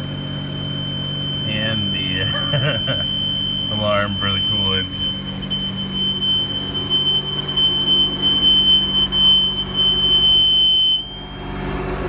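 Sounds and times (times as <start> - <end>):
high-pitched alarm tone: 0.0 - 11.6
machine hum: 0.0 - 12.0.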